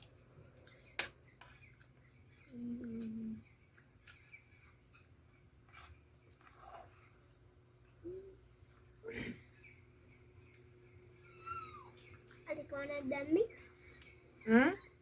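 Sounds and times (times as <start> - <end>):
quiet eating sounds: 0.0 - 15.0.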